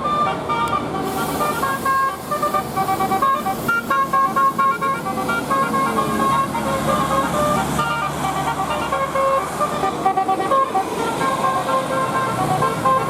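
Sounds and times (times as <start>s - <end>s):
musical air horn melody: 0.0s - 13.0s.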